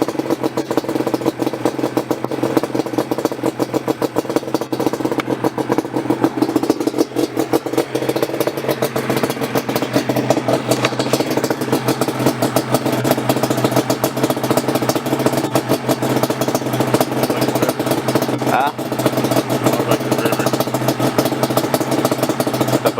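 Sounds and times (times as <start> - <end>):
two-stroke engine idling: 0.0 - 22.9.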